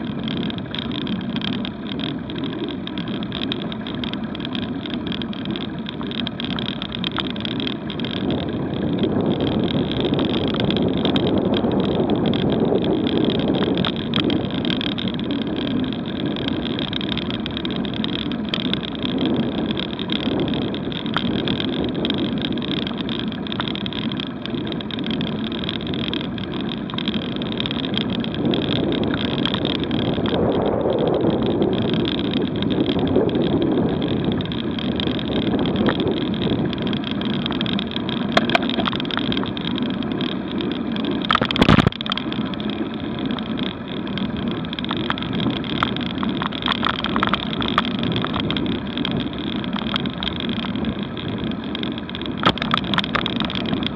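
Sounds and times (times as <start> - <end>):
road and wind rumble: 0.0 - 53.9.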